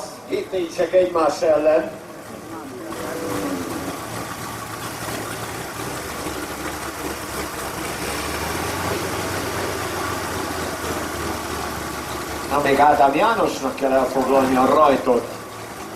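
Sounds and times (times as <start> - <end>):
race car engine idling: 0.0 - 15.9.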